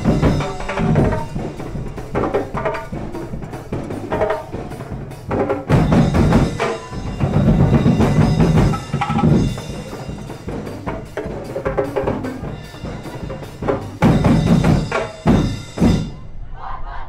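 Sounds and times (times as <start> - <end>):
heavy drum strokes: 0.0 - 16.2
percussion music: 0.0 - 16.2.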